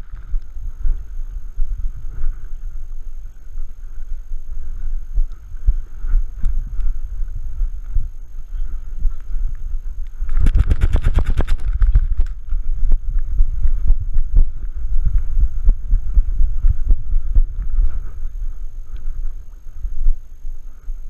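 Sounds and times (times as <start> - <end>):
muffled low thumps: 0.0 - 20.3.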